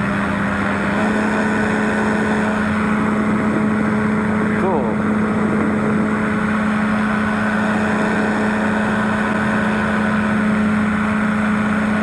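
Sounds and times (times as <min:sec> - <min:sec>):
propeller engine drone: 0:00.0 - 0:12.0.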